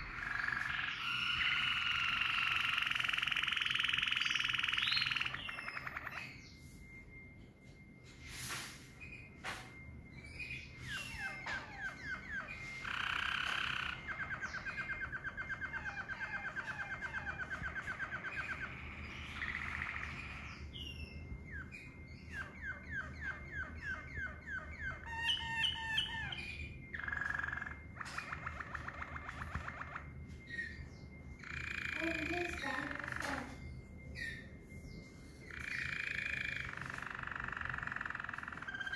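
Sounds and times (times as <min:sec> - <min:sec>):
canary singing trills: 0:00.0 - 0:07.9, 0:08.5 - 0:38.9.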